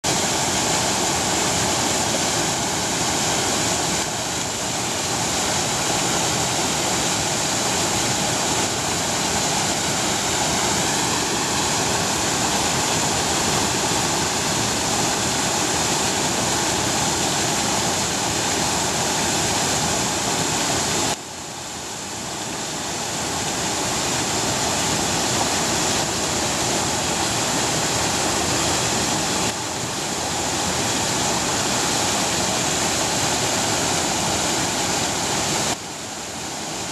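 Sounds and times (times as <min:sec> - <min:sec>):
water rushing over rocks: 0:00.0 - 0:36.9.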